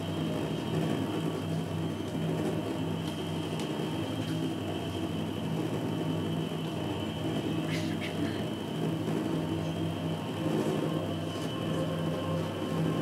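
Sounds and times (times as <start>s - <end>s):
faint high whine: 0.0s - 13.0s
low hum: 0.0s - 13.0s.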